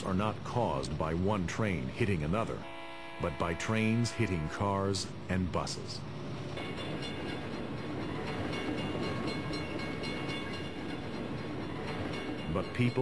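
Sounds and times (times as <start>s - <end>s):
train locomotive running: 0.0s - 13.0s.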